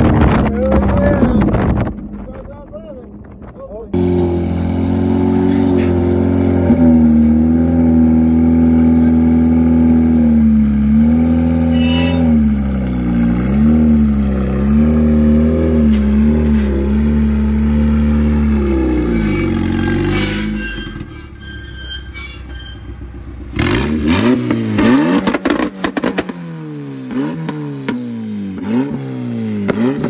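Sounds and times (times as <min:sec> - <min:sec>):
turbocharged car engine revving: 0:00.0 - 0:30.0.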